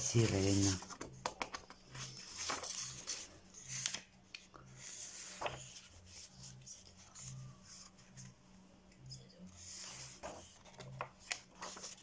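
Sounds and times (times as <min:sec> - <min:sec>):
paper rustling: 0:00.0 - 0:08.3, 0:09.6 - 0:12.0.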